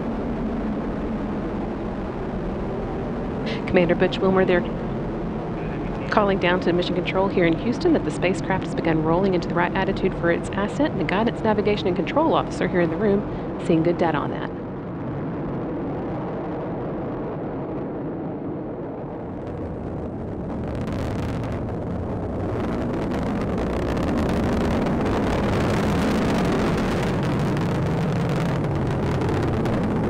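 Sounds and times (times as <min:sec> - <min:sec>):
rocket engine rumbling: 0:00.0 - 0:30.0.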